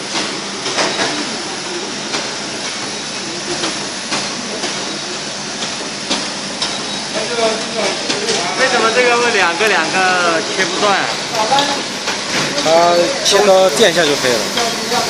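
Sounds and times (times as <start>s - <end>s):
packing machine whirring: 0.0s - 15.0s.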